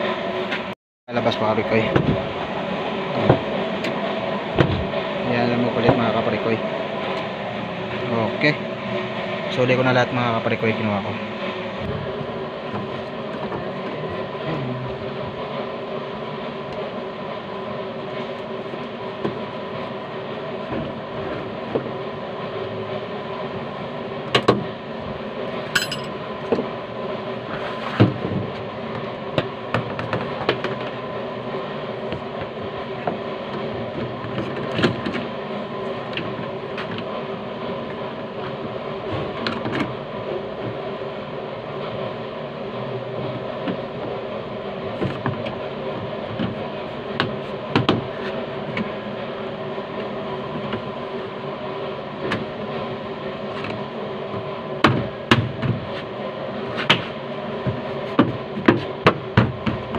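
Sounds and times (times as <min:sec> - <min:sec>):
steady droning hum: 0:00.0 - 0:59.9.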